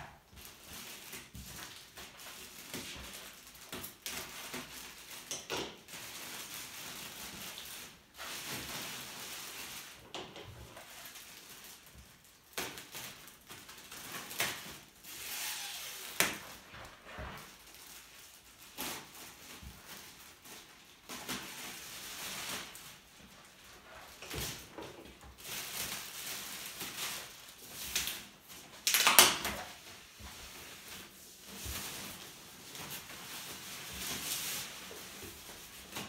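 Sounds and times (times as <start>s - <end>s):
plastic wrap rustling and crinkling: 0.0s - 36.0s.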